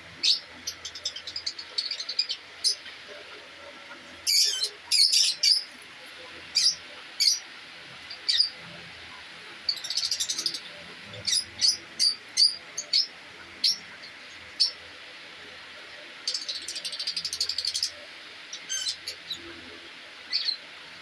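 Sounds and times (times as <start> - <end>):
small birds chirping: 0.2 - 15.2, 15.8 - 20.7.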